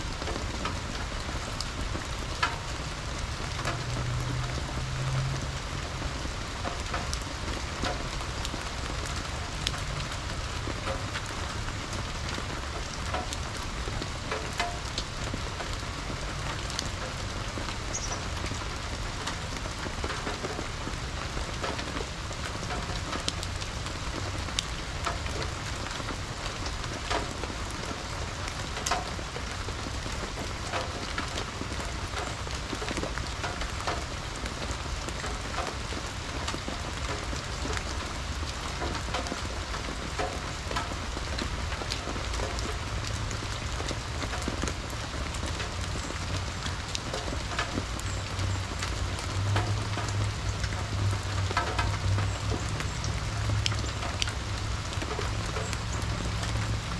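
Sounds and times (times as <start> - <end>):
rain on wet leaves: 0.0 - 56.9.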